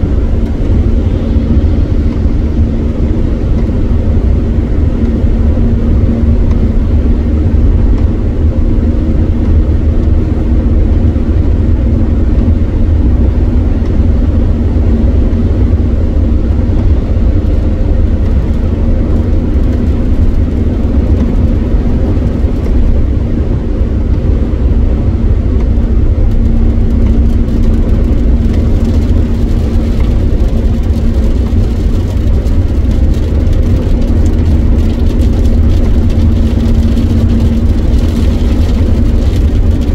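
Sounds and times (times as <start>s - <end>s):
car engine: 0.0s - 39.9s
constant hum: 0.0s - 39.9s
tyres rumbling on wet road: 0.0s - 39.9s.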